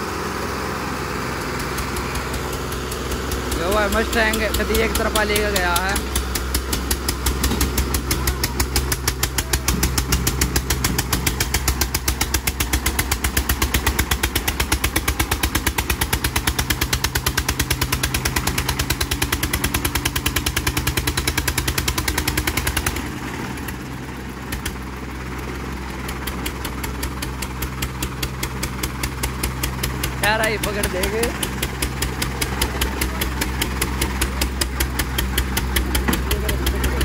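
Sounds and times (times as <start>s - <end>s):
diesel tractor engines under load: 0.0s - 37.0s.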